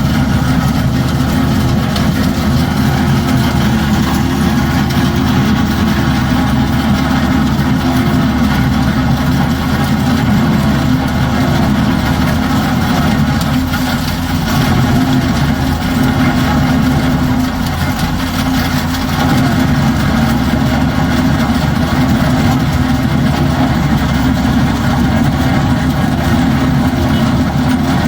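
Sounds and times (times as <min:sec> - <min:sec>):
concrete cutter engine running: 0:00.0 - 0:28.0.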